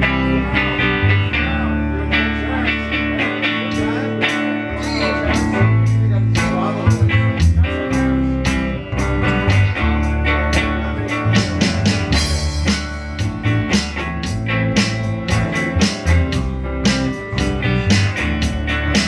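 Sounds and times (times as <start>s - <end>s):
bass line: 0.0s - 19.0s
strummed guitar chords: 0.0s - 19.0s.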